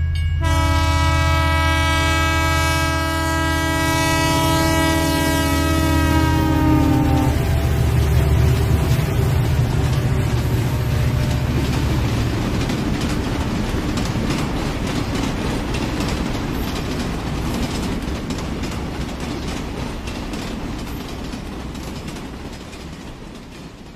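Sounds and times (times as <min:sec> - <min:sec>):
train rumble: 0:00.0 - 0:23.9
train wheels clacking: 0:03.1 - 0:23.9.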